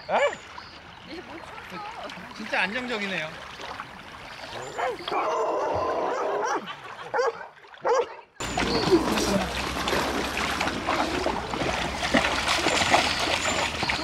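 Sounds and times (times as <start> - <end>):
water splashing: 0.0 - 14.0.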